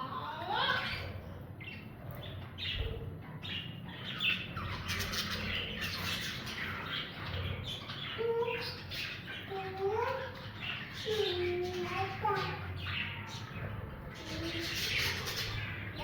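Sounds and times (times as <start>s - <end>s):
budgies chattering and squawking: 0.0s - 16.0s.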